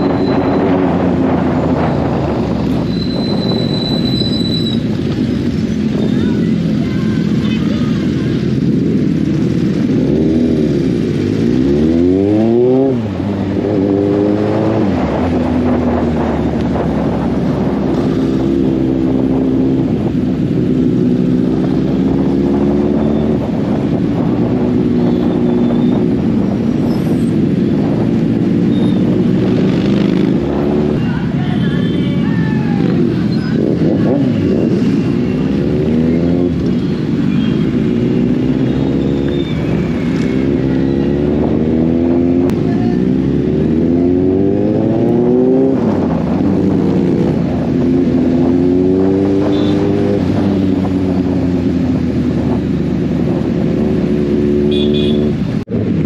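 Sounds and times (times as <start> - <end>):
motorcycle engine revving: 0.0 - 32.0, 32.7 - 56.0.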